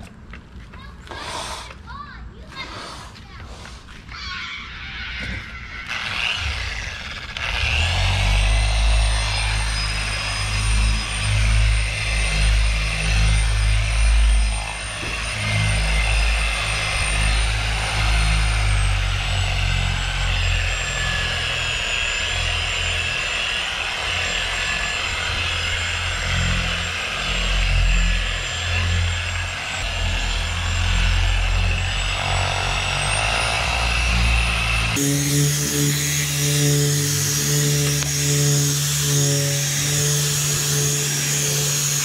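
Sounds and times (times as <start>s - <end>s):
electric polisher motor whine: 4.4s - 42.0s.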